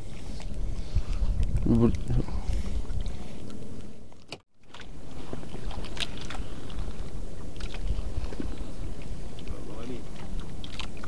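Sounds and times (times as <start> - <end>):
boat motor rumbling: 0.0 - 11.0.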